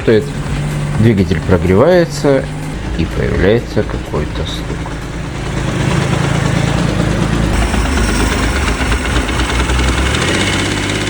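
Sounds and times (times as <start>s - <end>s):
engine knocking: 0.0s - 11.0s
motorcycle engine idling: 0.0s - 11.0s.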